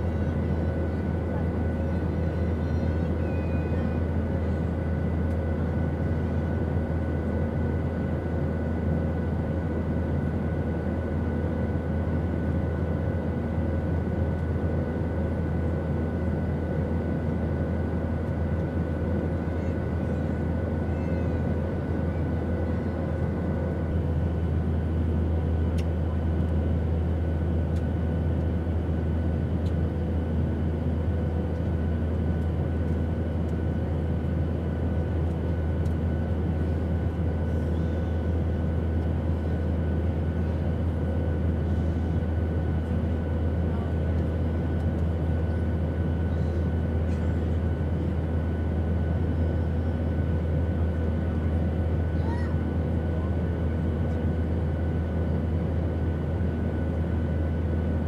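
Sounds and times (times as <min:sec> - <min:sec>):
airplane cabin rumble and hiss: 0:00.0 - 0:58.0.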